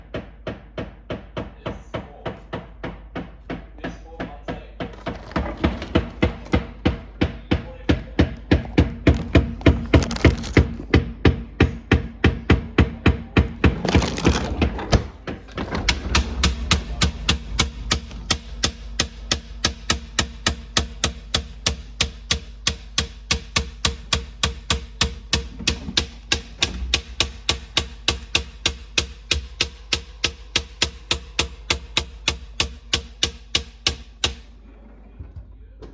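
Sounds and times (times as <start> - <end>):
refrigerator knocking: 0.0 - 34.6.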